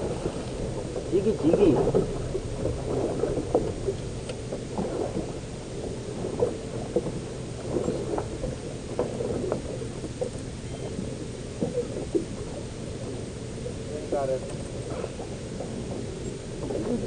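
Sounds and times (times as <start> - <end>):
boat knocking and slapping: 0.0 - 17.0
low steady rumble: 0.0 - 17.0.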